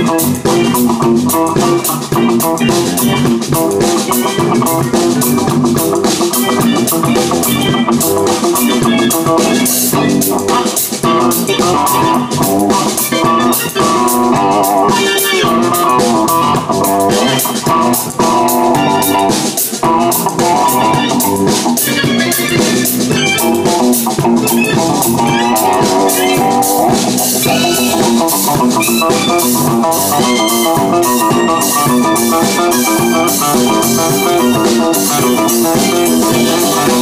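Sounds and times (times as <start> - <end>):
drum and cymbal hits: 0.0 - 37.0
electric guitar: 0.0 - 37.0.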